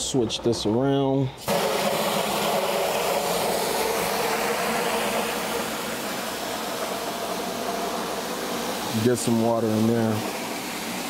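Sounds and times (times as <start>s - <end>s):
water from hose filling bucket: 1.4s - 11.0s.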